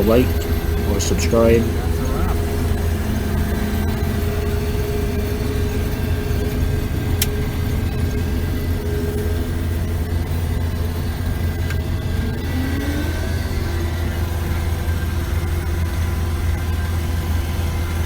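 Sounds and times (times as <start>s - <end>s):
farm machine engine droning: 0.0s - 18.0s.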